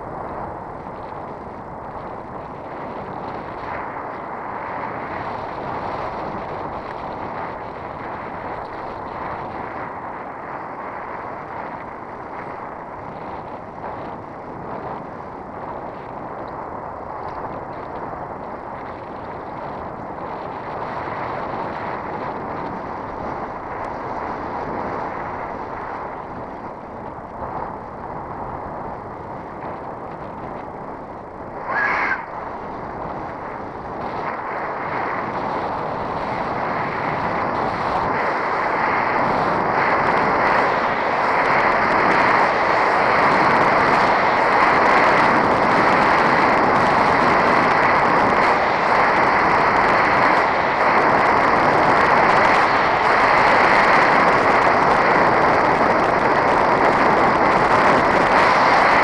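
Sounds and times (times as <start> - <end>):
bicycle tyres rolling on asphalt: 0.0 - 59.0
wind rushing over microphone: 0.0 - 59.0.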